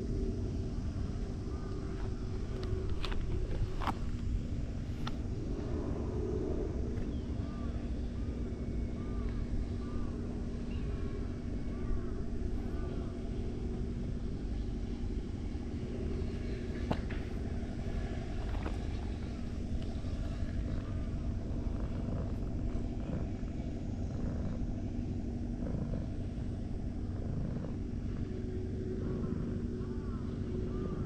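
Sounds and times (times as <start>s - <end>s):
distant engine rumble: 0.0s - 31.0s.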